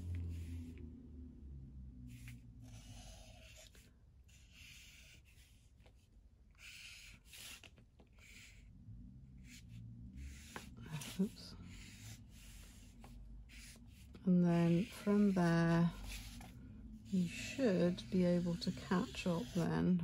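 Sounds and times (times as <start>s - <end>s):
marker scratching on paper: 2.1s - 8.7s, 9.4s - 20.0s.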